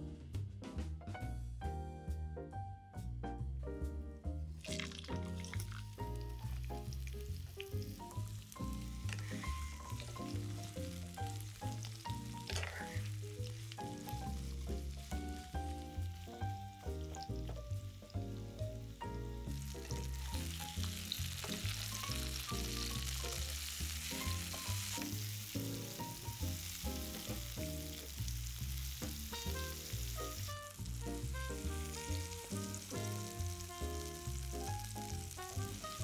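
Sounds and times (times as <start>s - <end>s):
instrumental music with bass: 0.0s - 36.0s
food sizzling in oil: 4.6s - 36.0s.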